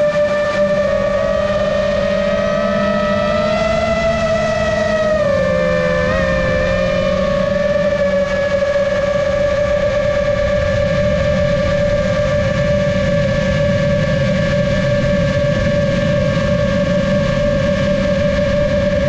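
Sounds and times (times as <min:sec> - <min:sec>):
drone motors whining: 0:00.0 - 0:19.0
low rush: 0:00.0 - 0:19.0.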